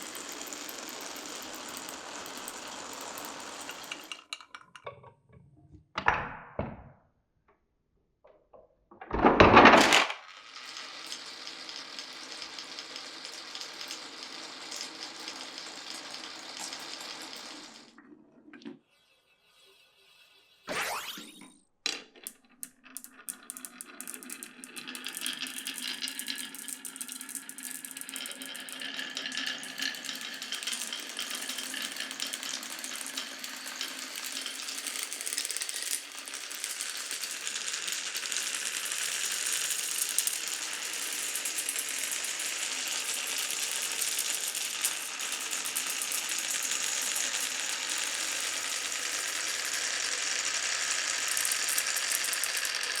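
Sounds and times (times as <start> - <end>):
marbles clattering on wooden track: 0.0 - 5.0, 9.0 - 18.0, 21.9 - 53.0.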